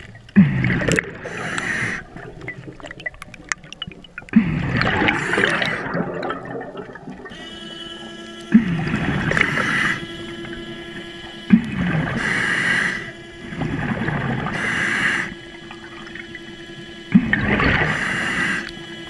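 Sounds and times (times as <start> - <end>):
exhaled bubbles gurgling: 0.0 - 19.0
underwater scooter motor whine: 0.0 - 19.0
diver breathing through regulator: 0.4 - 2.4, 4.3 - 6.2, 7.3 - 19.0.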